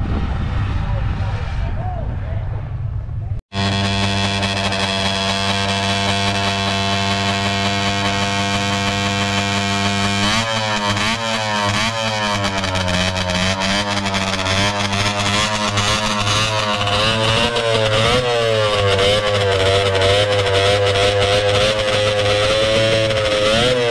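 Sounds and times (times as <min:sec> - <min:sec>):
snowmobile engine idling and revving: 0:03.3 - 0:23.9.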